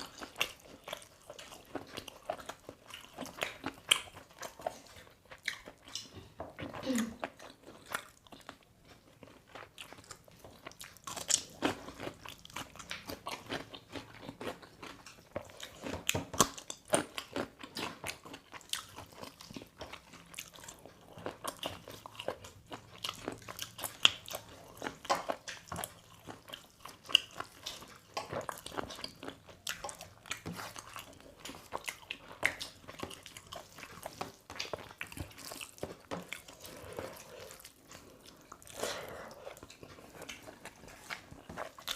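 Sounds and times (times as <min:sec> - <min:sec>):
people crunching and chewing: 0:00.0 - 0:41.9.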